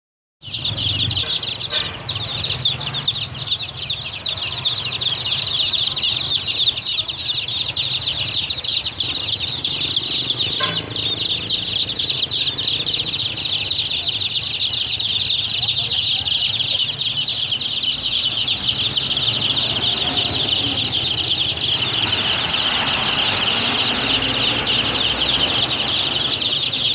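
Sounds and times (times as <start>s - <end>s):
chicks peeping: 0.4s - 26.9s.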